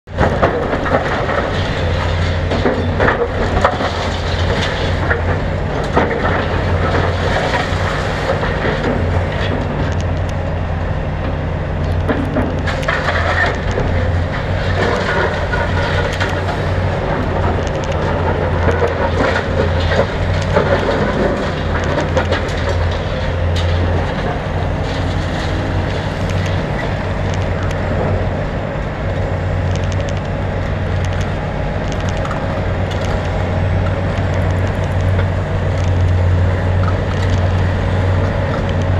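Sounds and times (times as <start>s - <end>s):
excavator diesel engine: 0.0s - 38.9s
falling rubble clatter: 0.1s - 10.5s, 11.2s - 38.9s.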